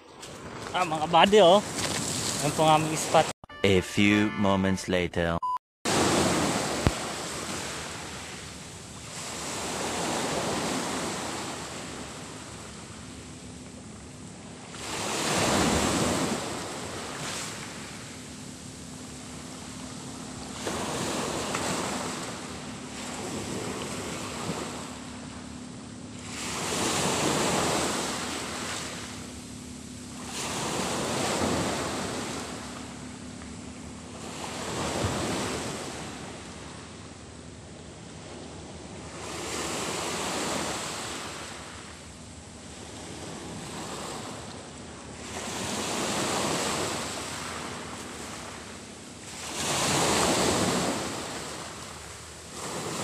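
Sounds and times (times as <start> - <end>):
small waves breaking on shore: 0.0 - 3.3, 5.9 - 53.0.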